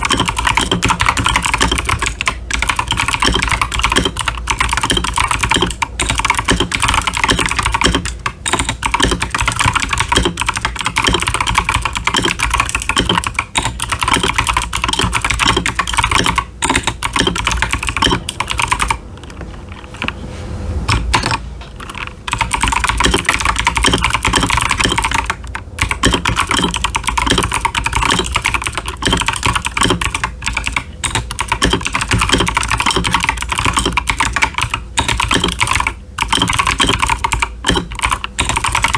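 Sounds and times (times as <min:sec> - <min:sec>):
mechanical keyboard typing: 0:00.0 - 0:19.9, 0:20.9 - 0:38.9.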